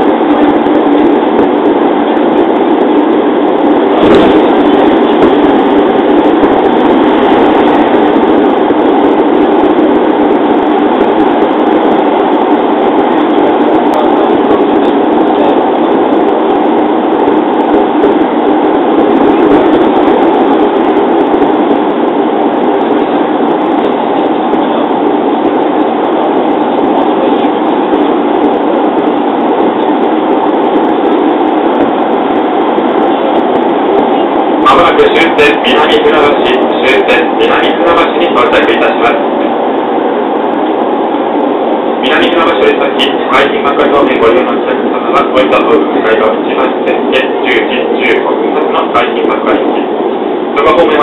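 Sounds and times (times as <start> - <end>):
train running rumble: 0.0 - 51.0.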